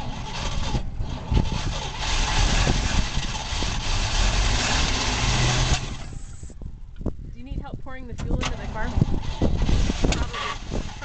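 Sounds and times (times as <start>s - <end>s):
truck engine starting and running roughly: 0.0s - 7.1s, 7.7s - 11.0s.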